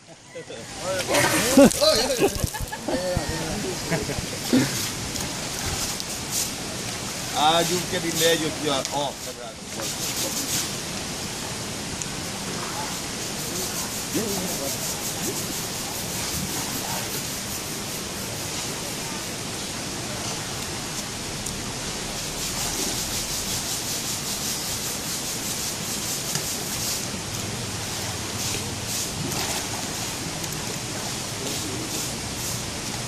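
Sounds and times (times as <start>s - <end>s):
river flowing over stones: 0.6s - 33.0s.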